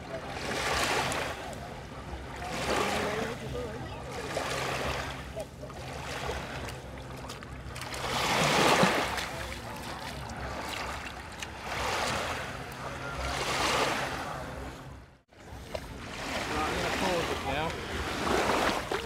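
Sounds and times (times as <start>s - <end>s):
low steady hum: 0.0s - 19.0s
small waves lapping on sand: 0.0s - 19.0s.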